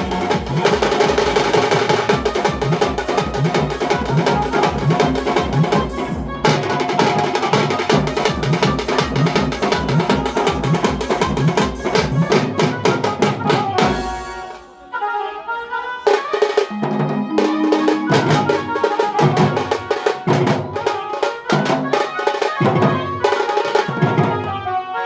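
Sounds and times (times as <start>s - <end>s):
fast drumming: 0.0s - 14.6s, 16.2s - 24.5s
melody over drums: 0.0s - 14.6s, 16.4s - 21.9s.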